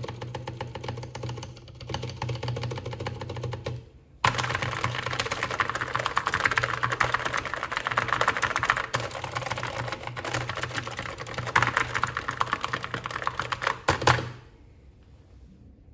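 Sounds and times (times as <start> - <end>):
keyboard typing clatter: 0.0 - 14.5.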